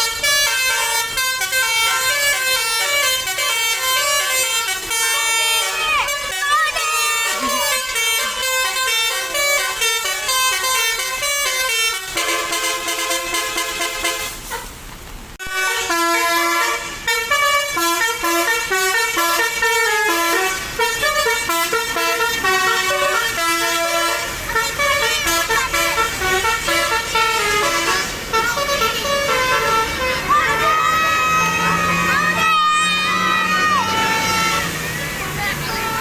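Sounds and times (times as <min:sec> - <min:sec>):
musical bus horn playing a tune: 0:00.0 - 0:14.8, 0:15.4 - 0:36.0.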